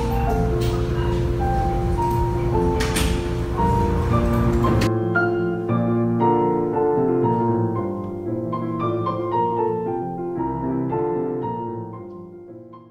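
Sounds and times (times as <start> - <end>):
keyboard music: 0.0 - 12.9.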